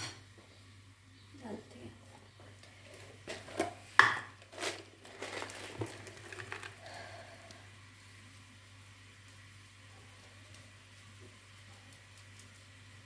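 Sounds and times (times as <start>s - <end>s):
cardamom pods crackling: 1.1s - 13.0s.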